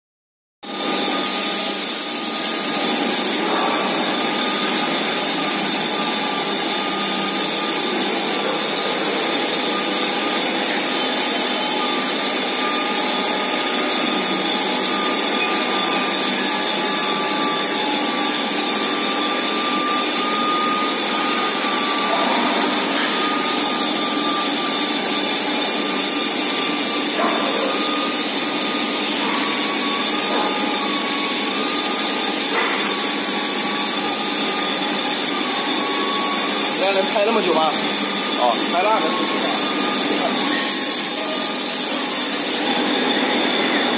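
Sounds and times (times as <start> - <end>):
rotary polishing tool whining: 0.6 - 43.9.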